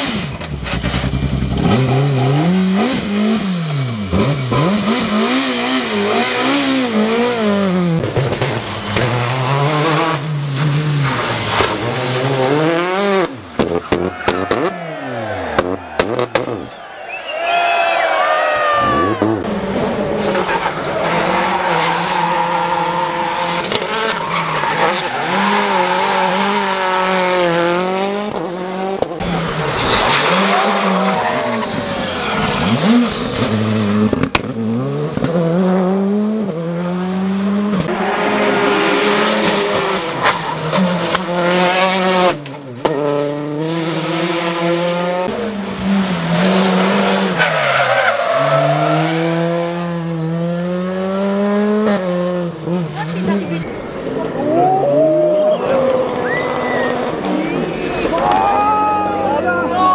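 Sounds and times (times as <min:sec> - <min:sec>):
rally car engines revving: 0:00.0 - 0:16.8, 0:18.4 - 0:59.9.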